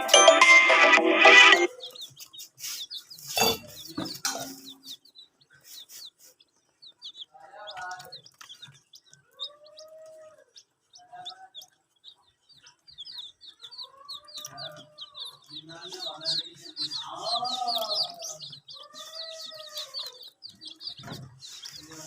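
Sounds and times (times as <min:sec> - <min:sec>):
baby chicks peeping: 0:00.0 - 0:22.0.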